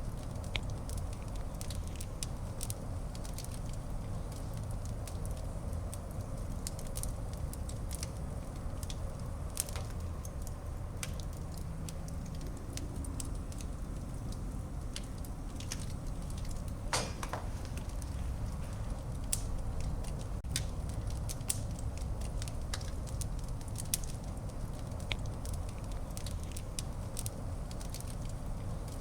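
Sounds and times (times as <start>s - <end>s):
fire crackling and popping: 0.0s - 29.0s
fire rumbling: 0.0s - 29.0s.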